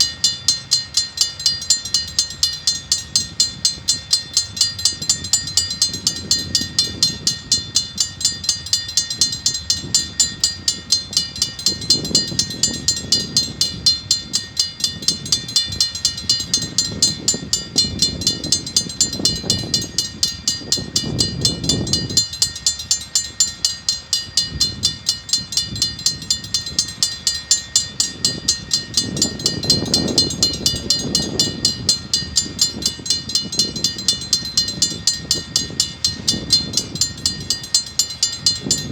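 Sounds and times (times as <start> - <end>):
level crossing warning bell: 0.0 - 38.9
train wagons rumbling: 0.0 - 38.9.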